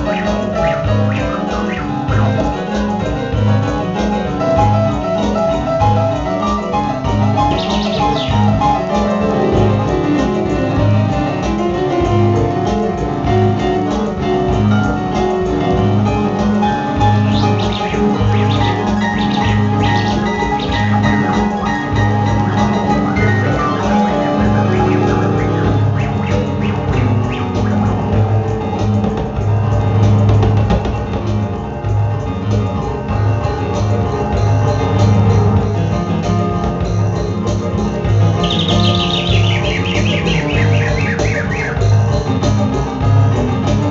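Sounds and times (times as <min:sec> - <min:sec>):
drum kit: 0:00.0 - 0:43.9
live band with piano keyboards: 0:00.0 - 0:43.9.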